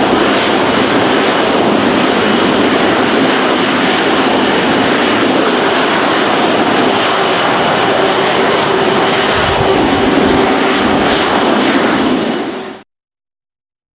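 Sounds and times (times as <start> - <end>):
jet engines idling: 0.0 - 12.8.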